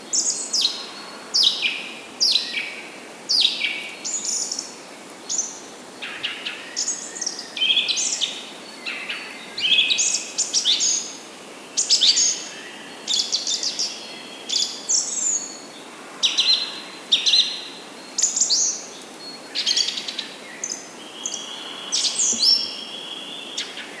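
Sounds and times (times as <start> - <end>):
songbirds chirping: 0.1 - 24.0.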